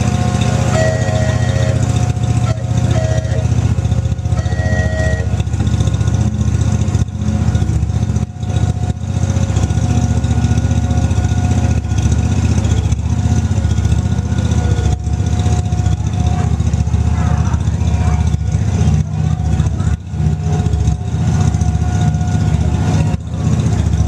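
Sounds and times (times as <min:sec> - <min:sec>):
small train engine running: 0:00.0 - 0:24.0.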